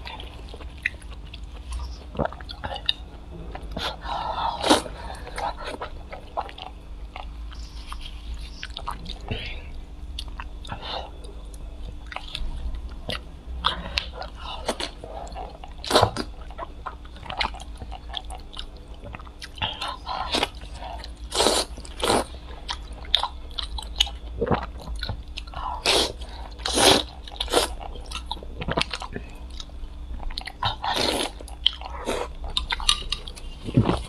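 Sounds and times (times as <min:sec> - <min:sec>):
person chewing meat: 0:00.0 - 0:34.0.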